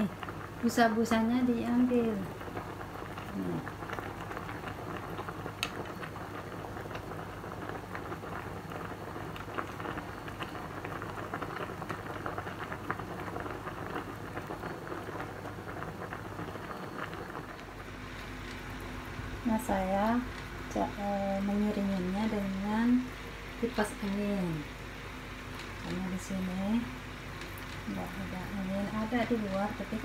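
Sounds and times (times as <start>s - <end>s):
beans boiling in a pot: 0.0s - 30.0s.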